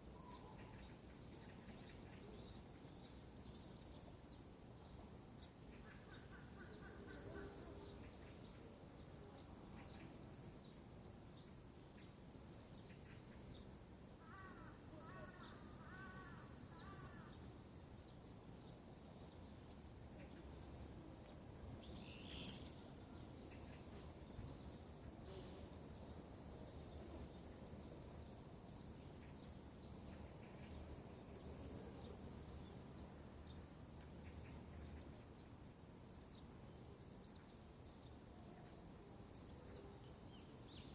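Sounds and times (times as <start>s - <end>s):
faint wild birds calling: 0.0s - 40.9s.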